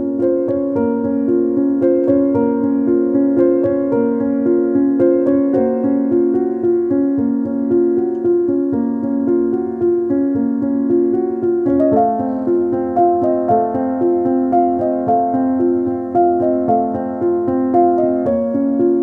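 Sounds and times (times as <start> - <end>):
repeated keyboard notes music: 0.0 - 19.0.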